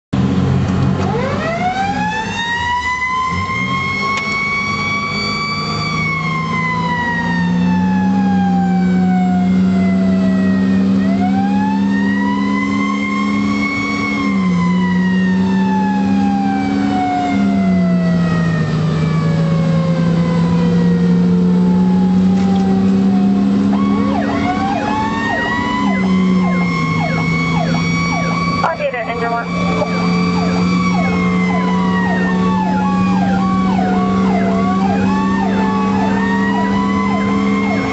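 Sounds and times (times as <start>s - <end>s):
fire engine siren wailing: 0.2s - 37.9s.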